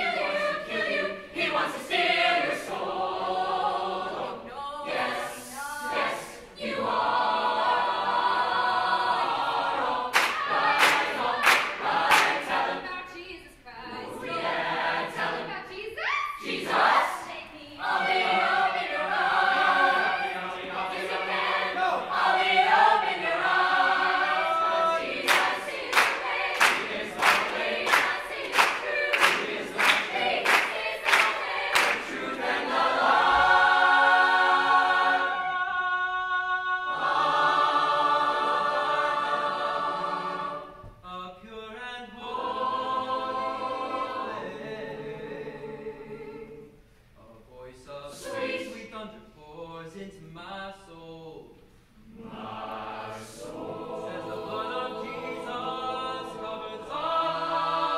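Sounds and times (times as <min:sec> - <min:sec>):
choir singing a cappella: 0:00.0 - 0:57.9.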